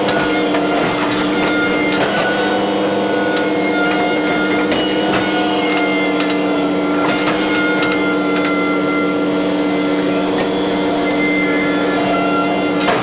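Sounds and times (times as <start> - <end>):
excavator diesel engine: 0.0 - 13.0
hydraulic whine: 0.0 - 13.0.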